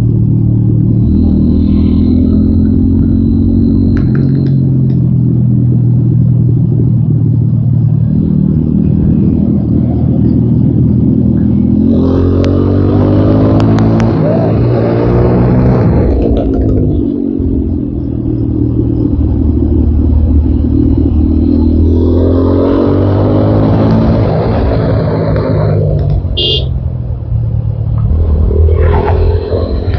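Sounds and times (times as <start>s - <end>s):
motorcycle engine revving: 0.0s - 6.6s, 7.8s - 27.2s, 27.9s - 29.9s.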